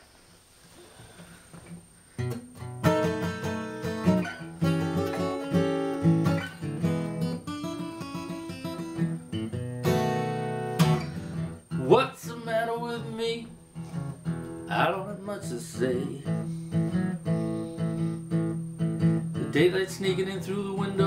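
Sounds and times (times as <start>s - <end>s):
acoustic guitar blues: 2.1s - 21.0s.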